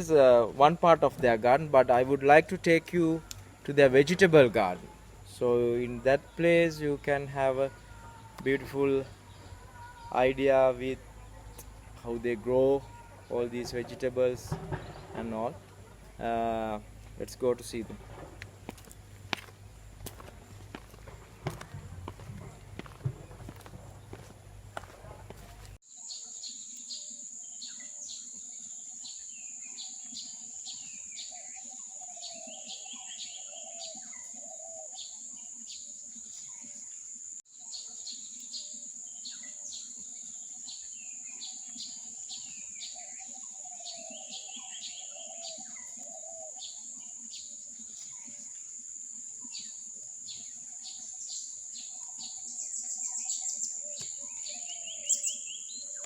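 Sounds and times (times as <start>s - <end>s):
birds chirping and calling: 0.0s - 37.0s, 37.6s - 56.0s.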